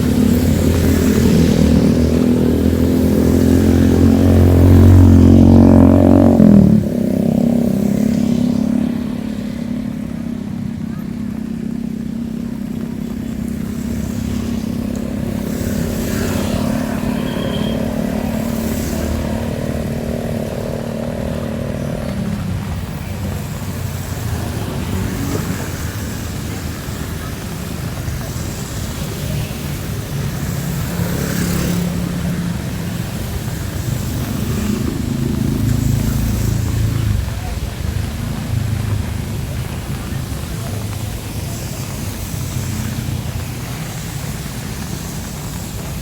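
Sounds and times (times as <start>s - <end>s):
engine humming: 0.0s - 46.0s
heavy rain on a street: 0.0s - 46.0s
tyres hissing on wet road: 0.0s - 46.0s.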